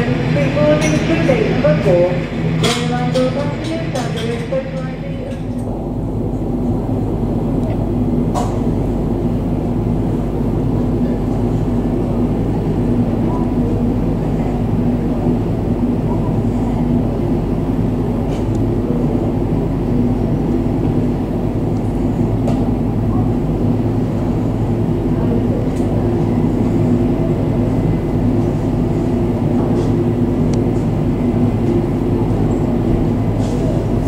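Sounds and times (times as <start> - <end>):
turboprop engines idling: 0.0 - 34.0.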